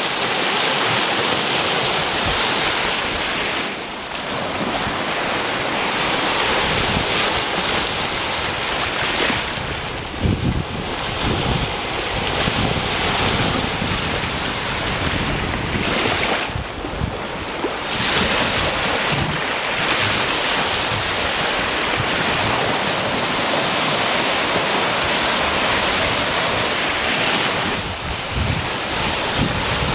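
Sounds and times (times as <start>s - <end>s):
sea waves breaking on beach: 0.0s - 29.9s
wind buffeting microphone: 1.9s - 29.9s.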